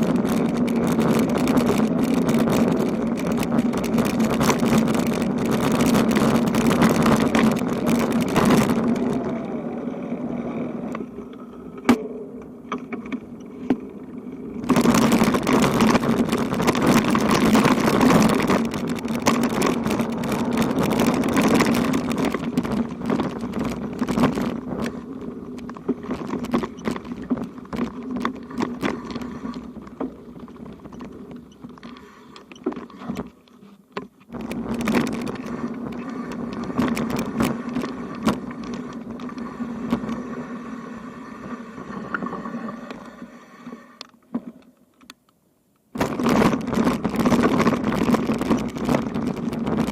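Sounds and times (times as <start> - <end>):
clicks and rattles: 0.0 - 9.3, 14.6 - 40.2, 44.0 - 49.9
road noise hum: 0.0 - 49.9.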